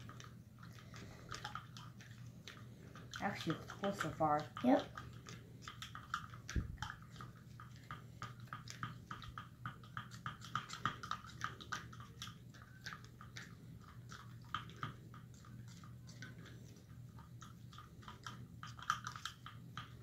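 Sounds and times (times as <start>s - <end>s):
stick stirring glue in a cup: 0.0s - 20.0s.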